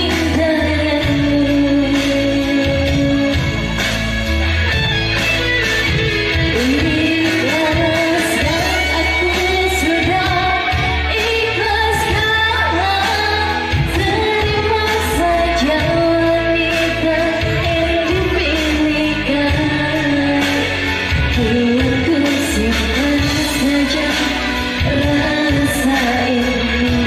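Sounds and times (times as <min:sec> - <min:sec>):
electronic keyboard backing: 0:00.0 - 0:27.0
person singing live: 0:00.0 - 0:27.0.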